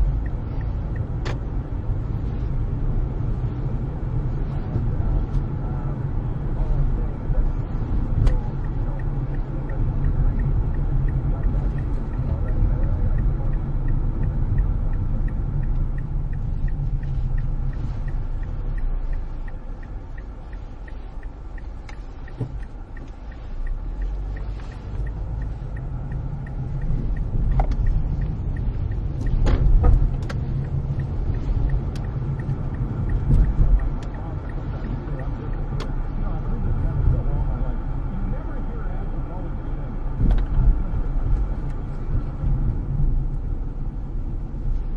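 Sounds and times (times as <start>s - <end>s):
car engine and tyre rumble: 0.0s - 44.9s
faint regular ticking: 0.0s - 44.9s.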